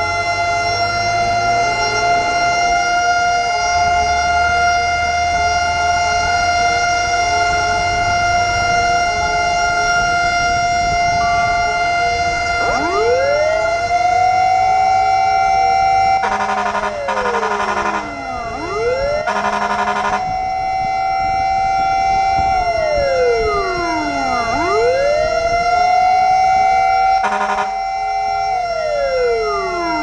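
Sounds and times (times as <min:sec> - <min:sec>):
fire truck siren: 0:00.0 - 0:30.0.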